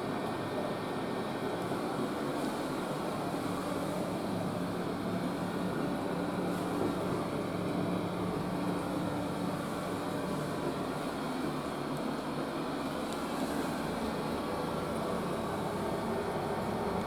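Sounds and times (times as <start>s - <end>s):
mechanical whirring hum: 0.0s - 17.0s.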